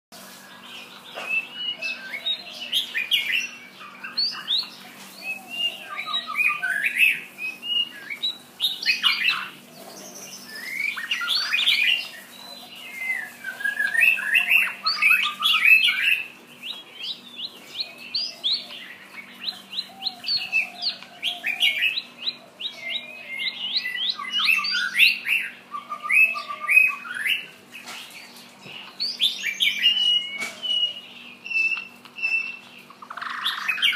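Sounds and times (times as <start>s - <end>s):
bird singing whistled phrases: 1.2s - 9.5s, 10.2s - 17.2s, 19.4s - 27.5s, 29.0s - 33.9s.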